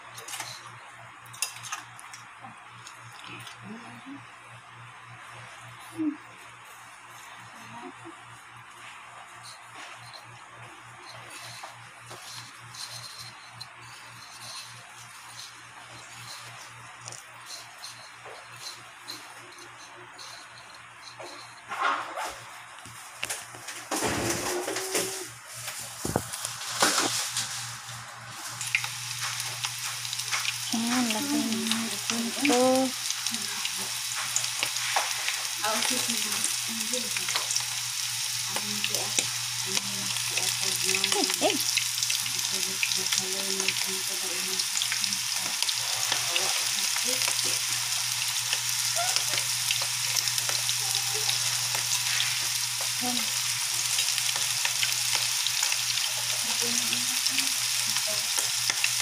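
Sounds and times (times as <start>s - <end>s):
squid rings deep-frying in oil: 0.0s - 3.4s, 9.2s - 21.8s, 23.2s - 59.0s.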